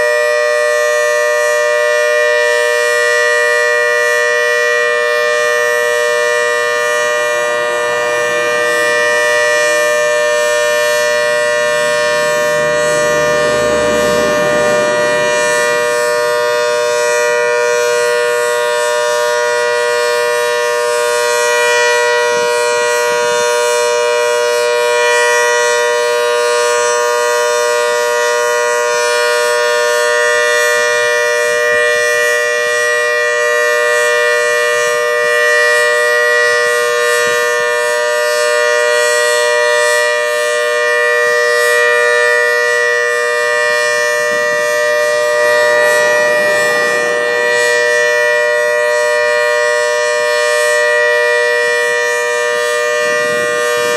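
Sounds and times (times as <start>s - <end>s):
dual-tone siren: 0.0s - 53.9s.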